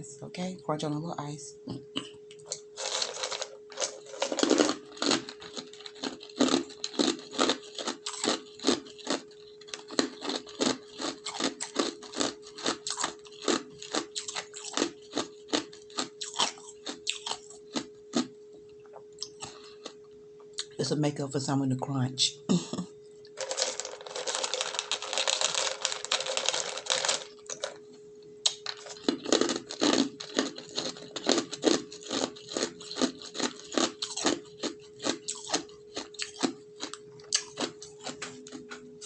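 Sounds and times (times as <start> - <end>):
ice cubes being chewed: 2.3 - 20.7, 23.2 - 38.9.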